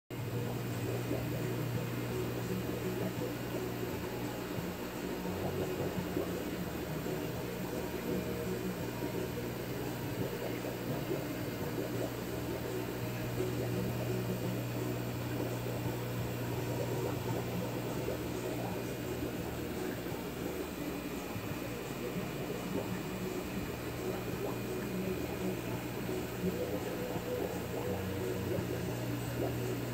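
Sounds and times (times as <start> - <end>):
low machine hum with hiss: 0.1 - 29.9.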